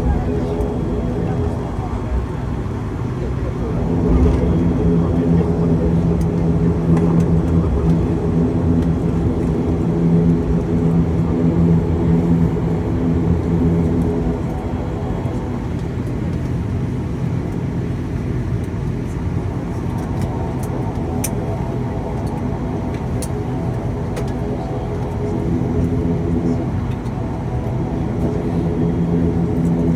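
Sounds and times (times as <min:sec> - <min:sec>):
engine hum: 0:00.0 - 0:29.9
propeller and engine drone: 0:00.0 - 0:29.9.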